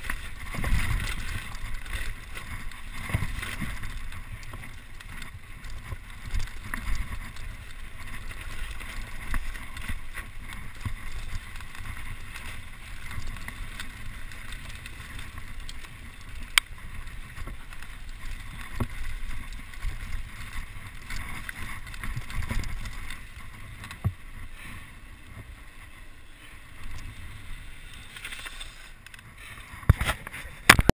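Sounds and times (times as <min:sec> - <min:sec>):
bike rattling over rocks: 0:00.0 - 0:30.9
bike tyres on dirt and stones: 0:00.0 - 0:30.9.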